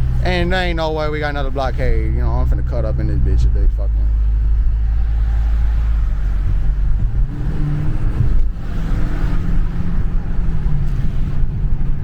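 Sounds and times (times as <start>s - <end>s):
car engine rumbling and accelerating: 0.0s - 12.0s.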